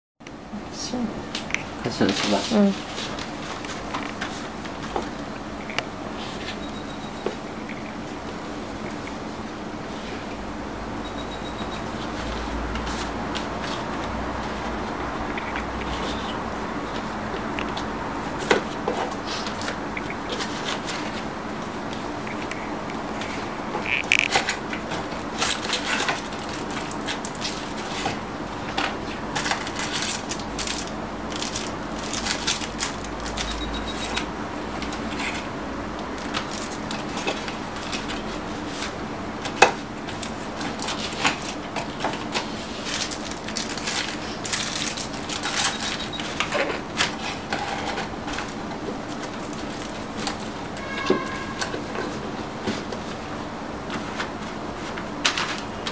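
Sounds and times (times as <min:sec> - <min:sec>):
faint steady hum: 0:00.2 - 0:55.9
cardboard and plastic rustling: 0:01.8 - 0:05.2, 0:12.0 - 0:35.5, 0:36.2 - 0:55.9.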